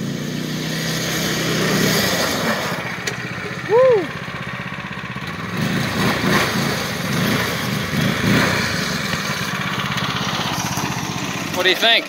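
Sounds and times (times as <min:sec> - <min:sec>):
go-kart engine revving: 0:00.0 - 0:12.0.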